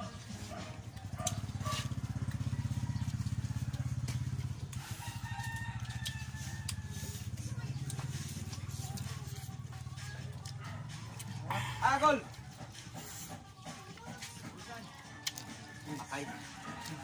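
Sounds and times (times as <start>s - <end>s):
small motorcycle engine idling: 0.1s - 14.7s.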